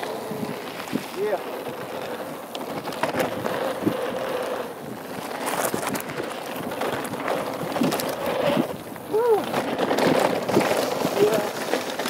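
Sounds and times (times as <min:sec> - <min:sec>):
wind on microphone: 0:00.0 - 0:11.7
bike rattling over bumps: 0:00.0 - 0:12.0
tyres rolling over gravel: 0:00.0 - 0:12.0.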